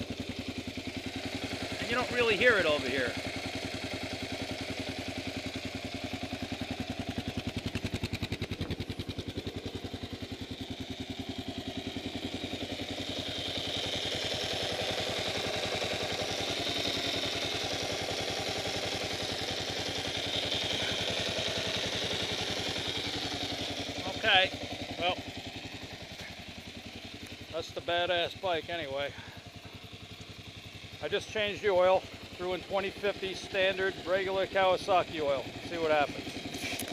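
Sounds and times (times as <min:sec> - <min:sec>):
engine whir and clatter: 0:00.0 - 0:36.9
motorcycle engine idling: 0:00.0 - 0:36.9.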